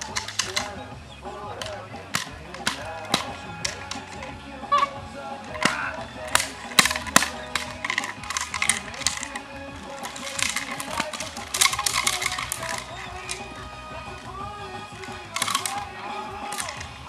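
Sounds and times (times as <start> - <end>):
sharp cracks and clicks: 0.0 - 0.9, 1.5 - 17.0
background music: 0.0 - 17.0.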